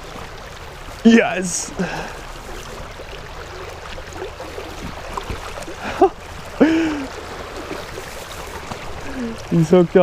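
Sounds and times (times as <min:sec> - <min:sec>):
river water running over rocks: 0:00.0 - 0:10.0.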